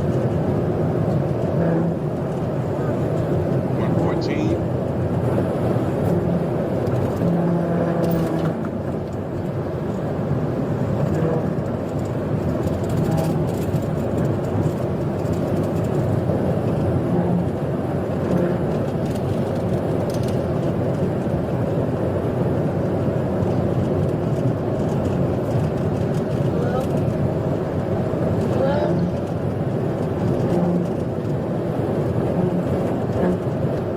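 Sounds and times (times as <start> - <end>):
car engine and road noise: 0.0 - 33.9.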